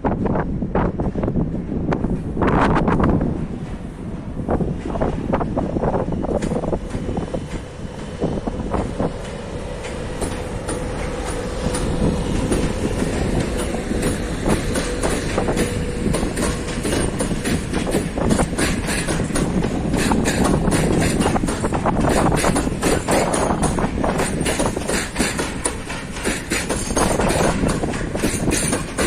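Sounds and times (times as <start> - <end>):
train rumble: 0.0 - 29.0
train wheels clicking over rail joints: 0.0 - 29.0.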